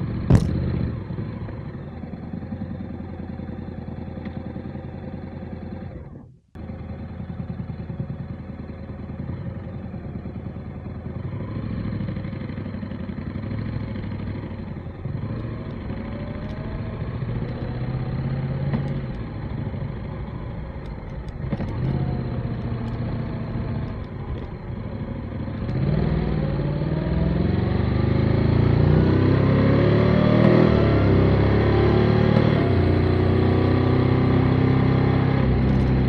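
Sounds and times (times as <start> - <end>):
motorcycle engine: 0.0 - 36.0
road and wind noise: 0.0 - 36.0.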